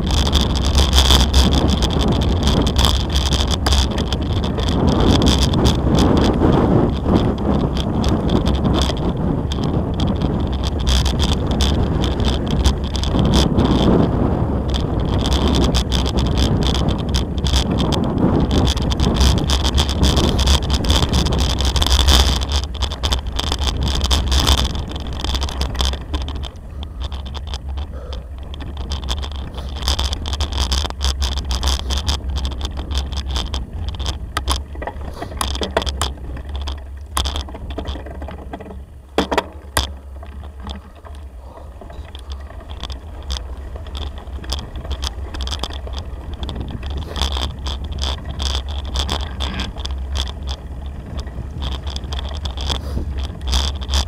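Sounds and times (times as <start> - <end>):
bicycle clicks and rattles: 0.0 - 54.0
wind rumble on microphone: 0.0 - 54.0.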